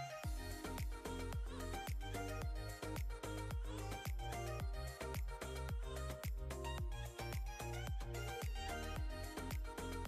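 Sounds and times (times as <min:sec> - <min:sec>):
background music with fast beat: 0:00.2 - 0:10.0.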